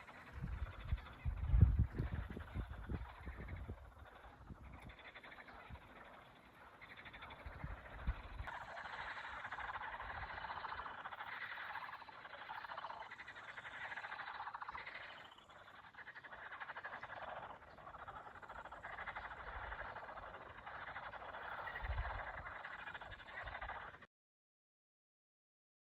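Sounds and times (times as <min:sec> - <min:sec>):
frogs croaking: 0:00.0 - 0:24.1.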